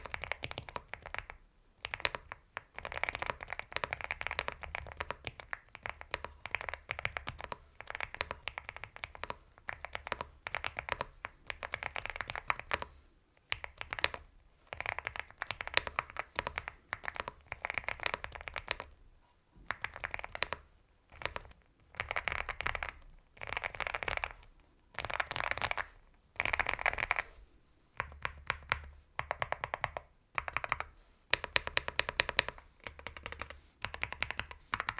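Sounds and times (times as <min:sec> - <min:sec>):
mechanical keyboard typing: 0:00.0 - 0:12.9, 0:13.5 - 0:19.0, 0:19.7 - 0:27.3, 0:28.0 - 0:34.9.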